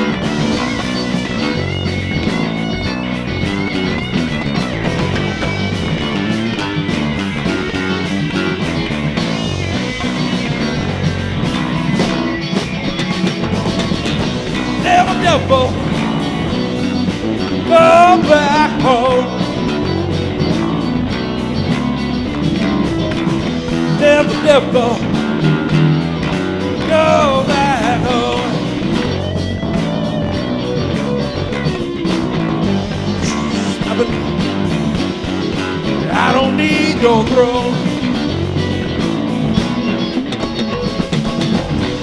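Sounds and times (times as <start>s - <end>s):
bass and drums: 0.0s - 42.0s
electric guitar lead with bent notes: 0.0s - 42.0s.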